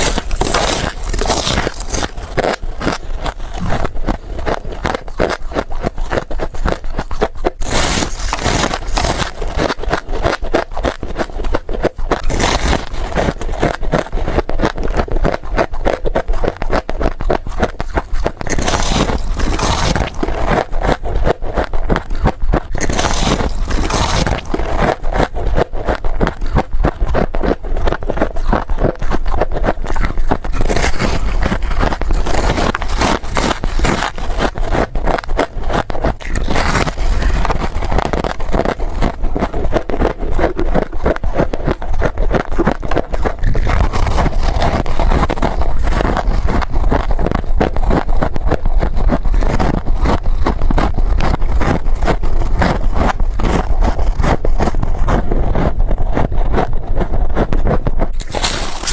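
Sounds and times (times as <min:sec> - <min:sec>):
person chewing frost: 0:00.0 - 0:58.9.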